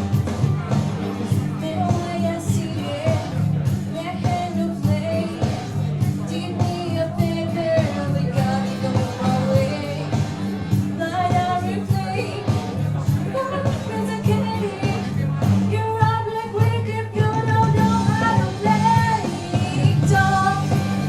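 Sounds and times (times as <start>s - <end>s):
instrumental accompaniment with beat: 0.0s - 21.0s
people singing pop-country song: 1.2s - 21.0s.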